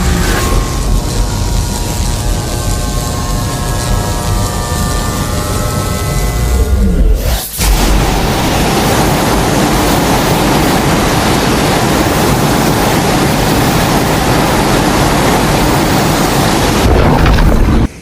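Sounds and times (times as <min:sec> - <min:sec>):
loud rushing noise: 0:00.0 - 0:18.0.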